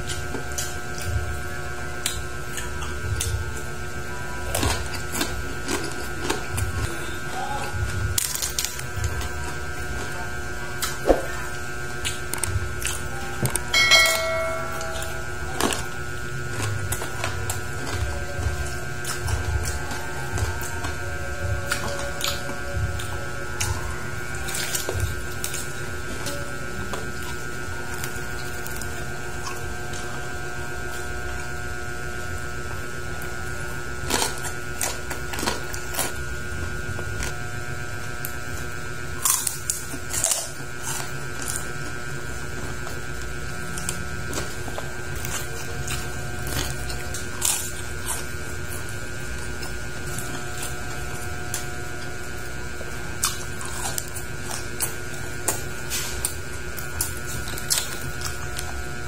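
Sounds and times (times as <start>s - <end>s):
crunching crispy pork skin: 0.0s - 59.0s
electrical hum: 0.0s - 59.0s.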